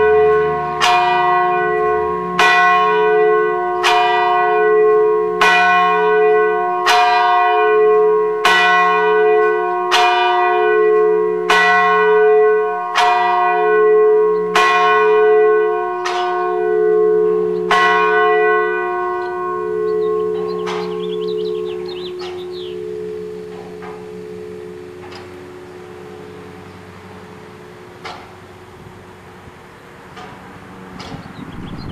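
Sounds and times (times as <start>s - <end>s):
church bell tolling: 0.0s - 31.9s.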